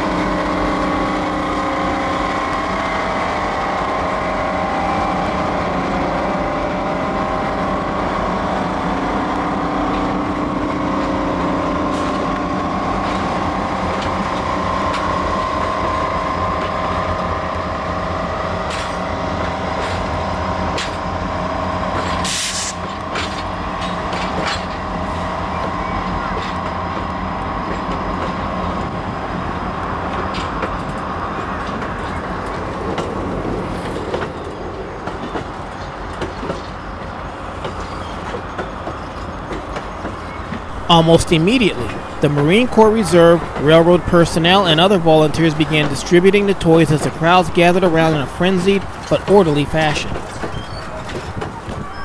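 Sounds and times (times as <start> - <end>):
diesel locomotive engine drone: 0.0 - 52.0
wheels clicking over rail joints: 5.0 - 52.0.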